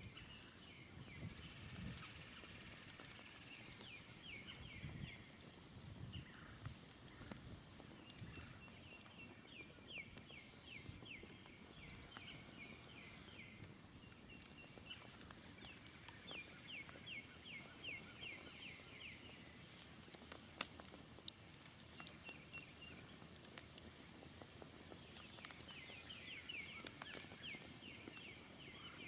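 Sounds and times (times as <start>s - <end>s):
campfire crackling: 0.0s - 29.0s
fire pop: 0.0s - 29.0s.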